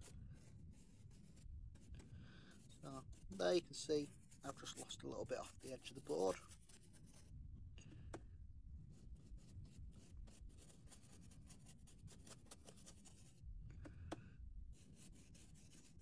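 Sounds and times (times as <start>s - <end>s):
paintbrush rubbing chalk on card: 0.0s - 7.4s, 8.8s - 13.4s, 14.7s - 16.0s.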